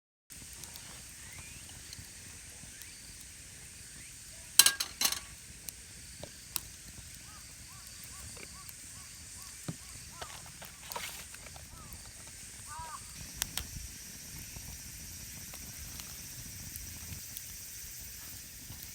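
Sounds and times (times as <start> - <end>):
steady high hiss: 0.3 - 18.9.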